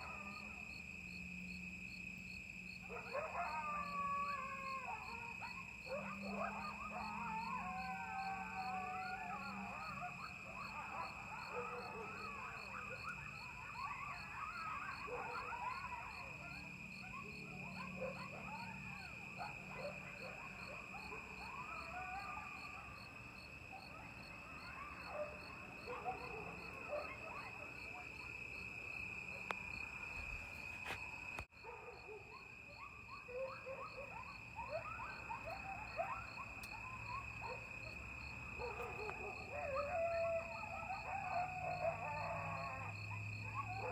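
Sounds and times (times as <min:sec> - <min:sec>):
coyotes yipping and howling: 0:00.0 - 0:43.9
cricket trill: 0:00.0 - 0:43.9.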